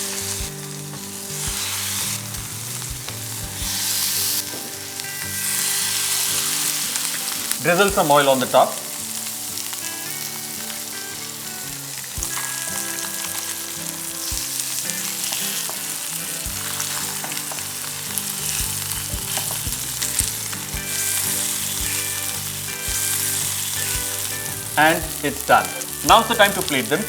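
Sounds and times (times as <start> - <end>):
chicken wings sizzling in oil: 0.0 - 27.0
soft background music: 0.0 - 27.0.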